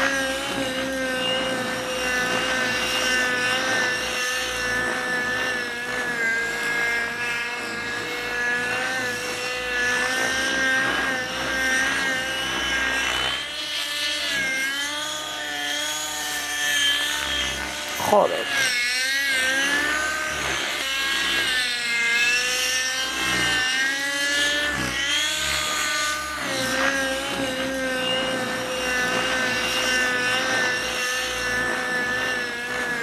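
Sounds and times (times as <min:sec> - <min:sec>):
model helicopter motor whine: 0:00.0 - 0:33.0.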